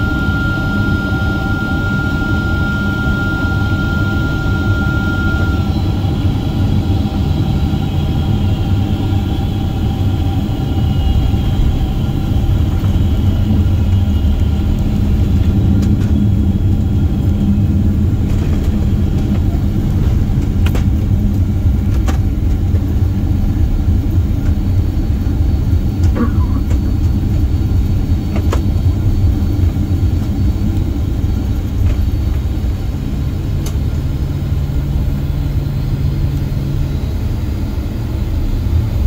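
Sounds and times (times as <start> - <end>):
airplane cabin roar on runway: 0.0 - 39.0.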